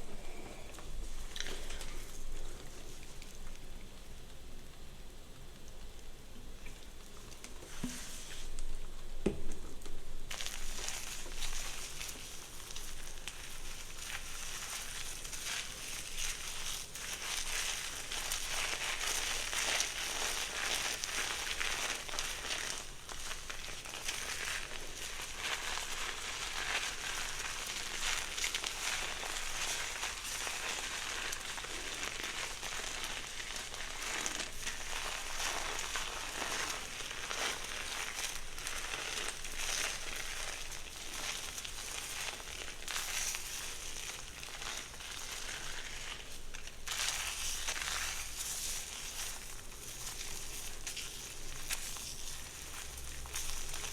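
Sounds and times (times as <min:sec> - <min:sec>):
brush rustling through hair: 0:07.6 - 0:08.6, 0:10.3 - 0:53.9.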